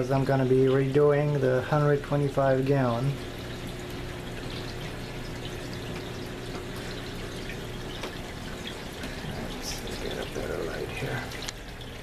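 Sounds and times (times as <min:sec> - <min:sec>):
steady low hum: 0:00.0 - 0:11.6
water dripping: 0:00.0 - 0:12.0
water trickling and splashing: 0:00.0 - 0:12.0.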